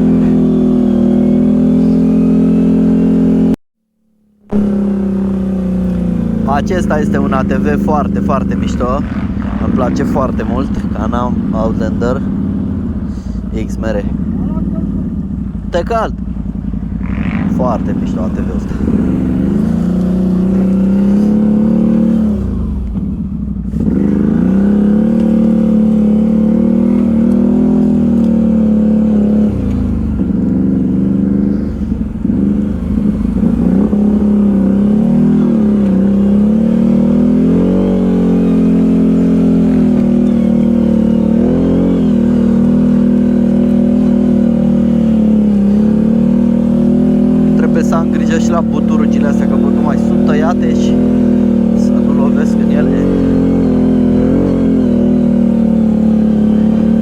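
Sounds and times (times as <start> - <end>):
atv engine revving: 0.0 - 3.6, 4.5 - 57.0.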